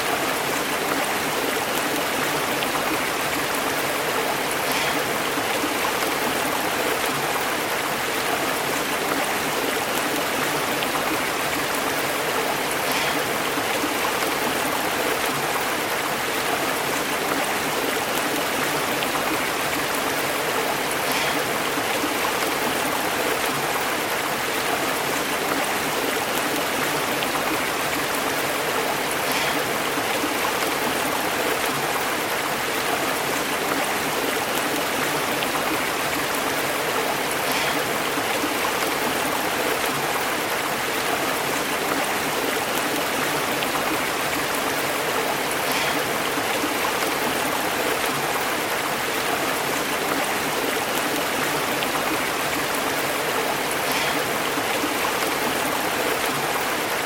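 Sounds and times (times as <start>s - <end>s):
stream bubbling over rocks: 0.0s - 57.0s.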